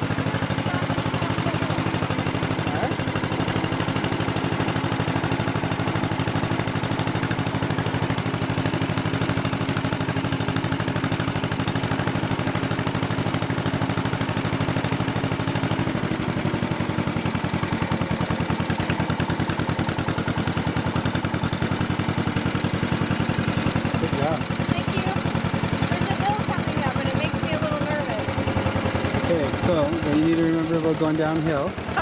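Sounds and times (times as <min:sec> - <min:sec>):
tractor engine exhaust popping: 0:00.0 - 0:32.0.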